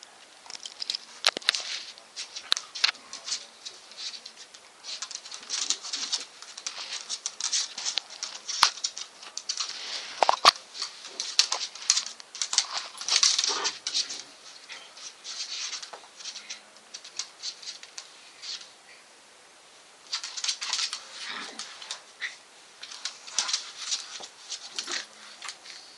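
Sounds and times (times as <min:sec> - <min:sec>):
claws scrabbling on wooden floor: 0:00.4 - 0:18.7, 0:20.1 - 0:25.9
dogs scuffling: 0:00.4 - 0:18.7, 0:20.0 - 0:25.9.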